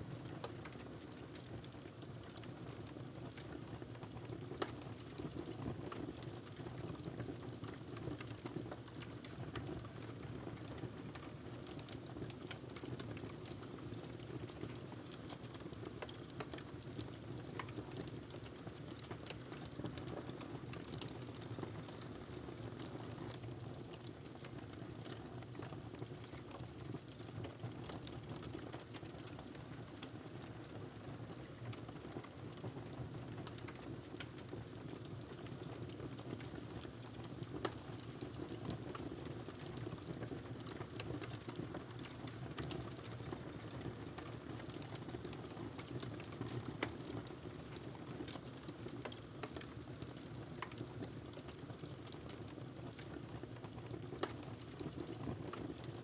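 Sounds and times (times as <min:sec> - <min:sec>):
wood fire crackling: 0:00.4 - 0:02.4, 0:03.3 - 0:06.2, 0:07.0 - 0:30.8, 0:31.6 - 0:56.0.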